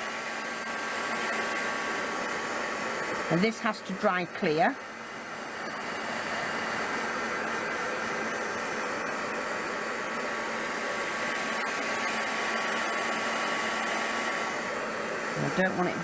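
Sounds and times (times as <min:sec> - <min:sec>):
heat gun blowing air: 0:00.0 - 0:16.0.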